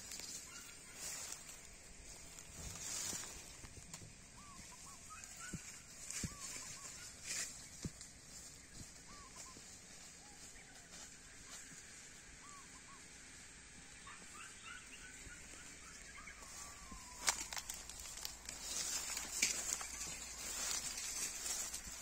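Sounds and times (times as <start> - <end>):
faint bird chirps: 0.0 - 3.4, 4.3 - 7.5, 8.7 - 22.0
vegetation rustling and crackling: 0.0 - 13.0, 14.0 - 22.0.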